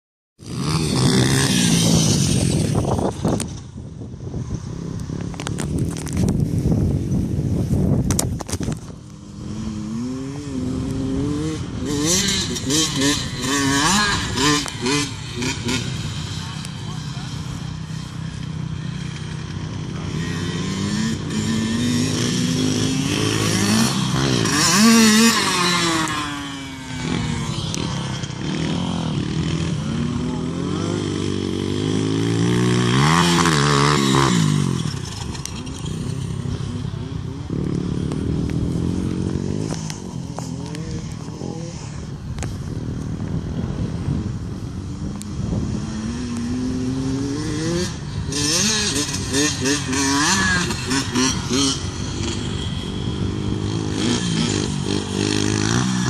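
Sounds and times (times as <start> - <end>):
dirt bike engines revving: 0.4 - 56.0.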